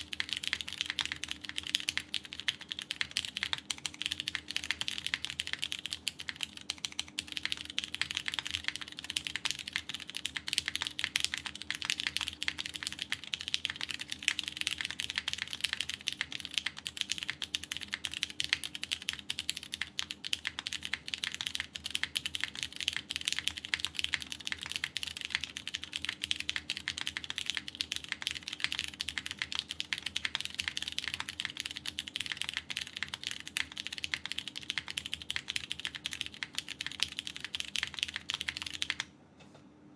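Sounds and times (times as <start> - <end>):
fast typing on mechanical keyboard: 0.0 - 39.1.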